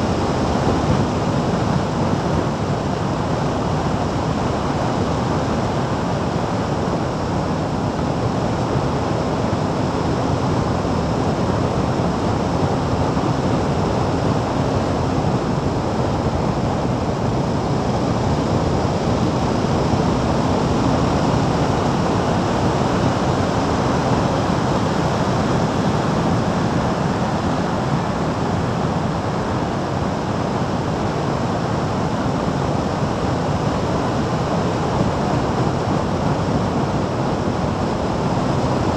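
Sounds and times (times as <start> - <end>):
wind rush over microphone: 0.0 - 38.9.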